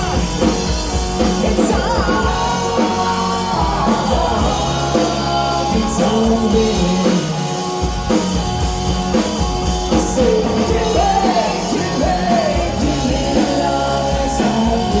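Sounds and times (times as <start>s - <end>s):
person singing: 0.0s - 7.6s, 10.0s - 15.0s
rock band playing: 0.0s - 15.0s.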